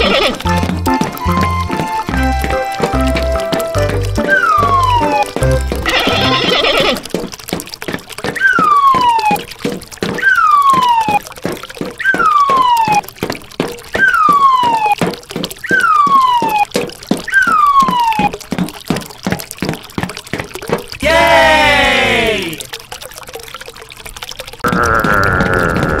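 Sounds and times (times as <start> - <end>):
stream trickling over stones: 0.0 - 26.0.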